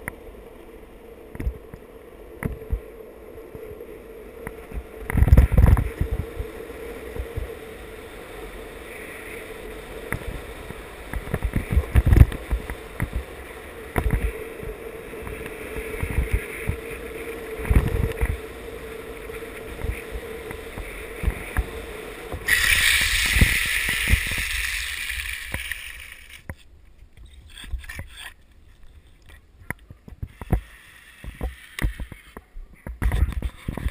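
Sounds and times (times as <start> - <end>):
skateboard wheels rolling on asphalt: 0.0 - 33.9
wheels sliding with hissing scrape: 0.3 - 29.4, 30.1 - 32.5.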